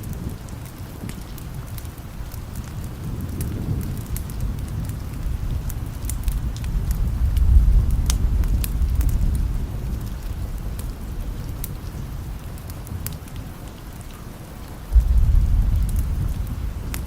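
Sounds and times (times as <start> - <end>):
low thunder rumble: 0.0 - 17.0
sharp crackles: 0.0 - 17.0
steady rain: 0.0 - 17.0.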